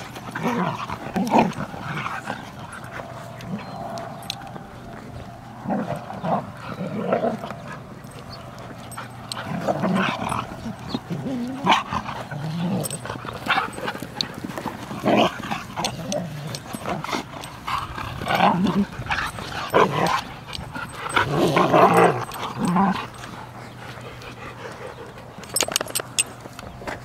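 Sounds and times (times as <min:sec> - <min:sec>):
dogs growling: 0:00.0 - 0:26.3.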